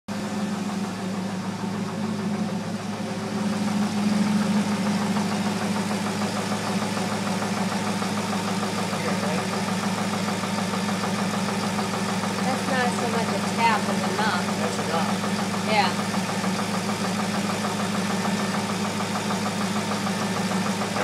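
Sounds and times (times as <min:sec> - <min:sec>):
car engine idling with knock: 0:00.1 - 0:21.0.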